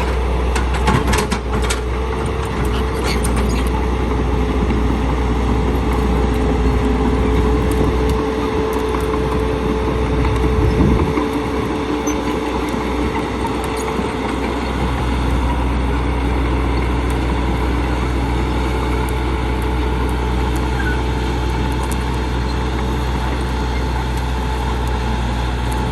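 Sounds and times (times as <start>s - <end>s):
heavy vehicle engine droning: 0.0s - 25.9s.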